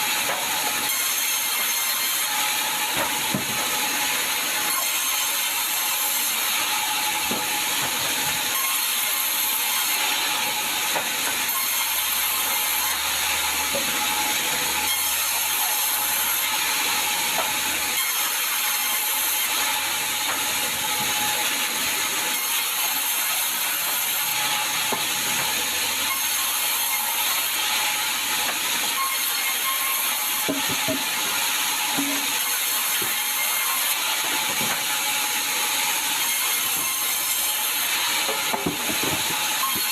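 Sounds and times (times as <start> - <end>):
sawmill saw cutting logs: 0.0 - 39.9.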